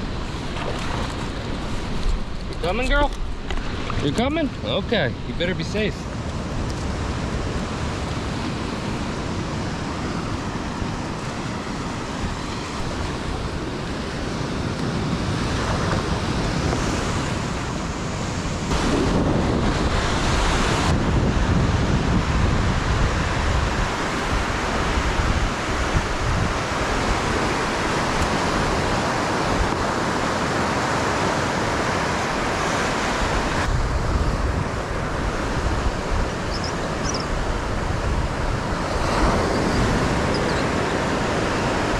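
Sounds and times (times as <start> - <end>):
ocean surf washing onto beach: 0.0 - 41.9
wind buffeting microphone: 0.0 - 41.9.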